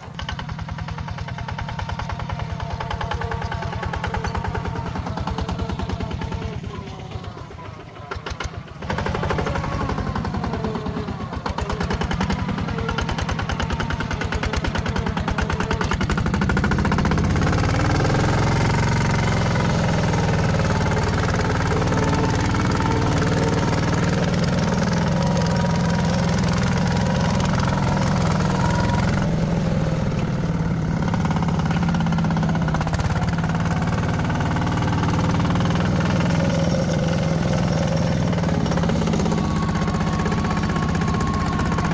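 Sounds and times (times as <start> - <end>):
diesel engine clattering: 0.0 - 41.9.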